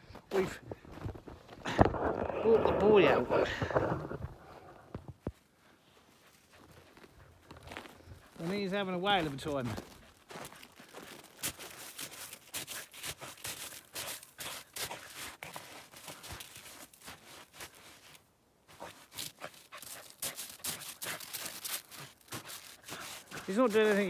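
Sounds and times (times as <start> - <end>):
footsteps in snow: 0.2 - 24.0
crunching in frozen snow: 0.3 - 24.0.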